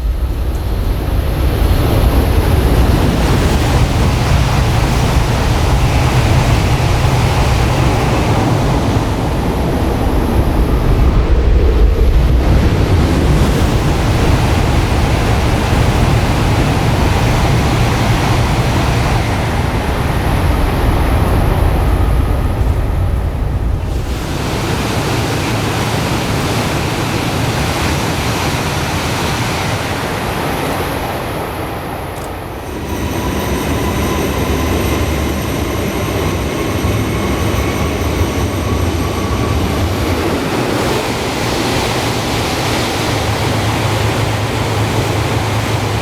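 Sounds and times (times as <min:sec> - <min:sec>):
high-speed train passing: 0:00.0 - 0:46.0.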